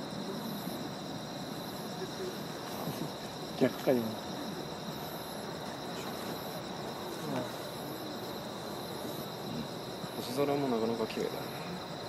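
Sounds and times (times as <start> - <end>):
faint voices: 0.0 - 12.0
night insects trilling: 0.0 - 12.0.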